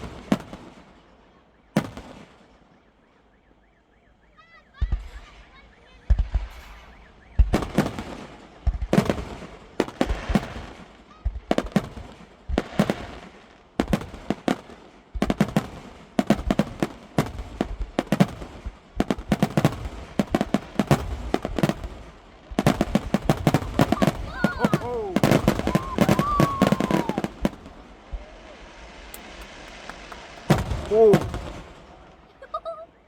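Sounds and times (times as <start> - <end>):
fireworks bangs and crackles: 0.0 - 3.5, 4.4 - 33.0.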